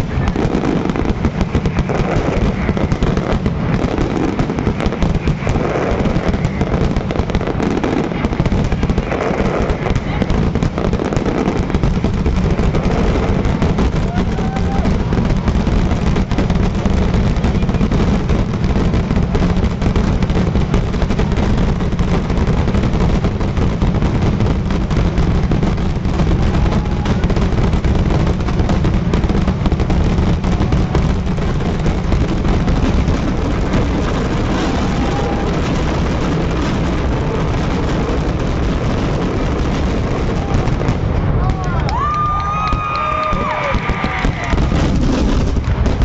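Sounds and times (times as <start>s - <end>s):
fireworks barrage: 0.0s - 46.0s.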